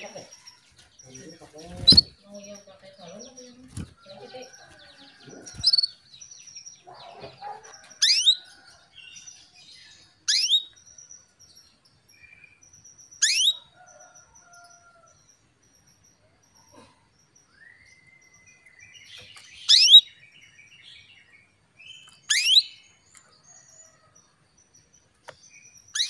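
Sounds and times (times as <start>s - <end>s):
faint mixed background sounds: 0.0s - 26.0s.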